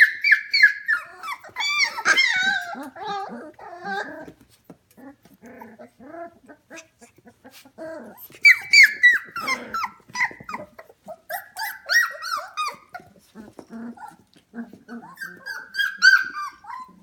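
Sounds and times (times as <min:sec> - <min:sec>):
puppies whining and yelping: 0:00.0 - 0:17.0.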